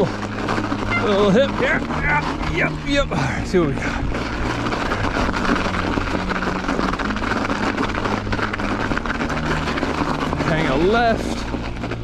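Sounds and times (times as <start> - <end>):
bike tyres rolling over snow: 0.0 - 12.0
small rattles: 0.0 - 12.0.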